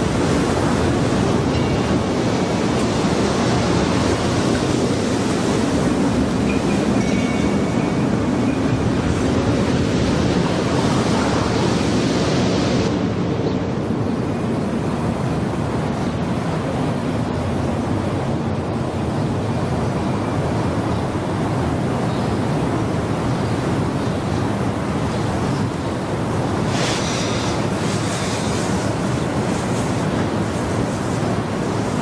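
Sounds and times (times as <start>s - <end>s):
steady rushing noise: 0.0s - 32.0s.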